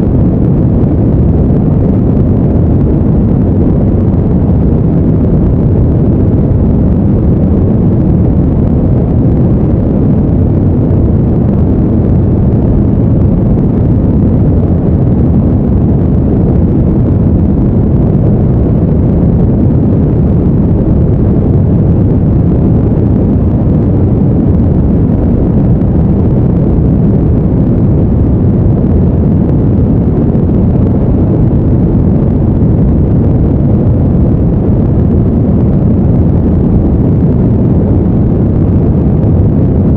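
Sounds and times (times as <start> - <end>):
deep brown noise: 0.0 - 39.9.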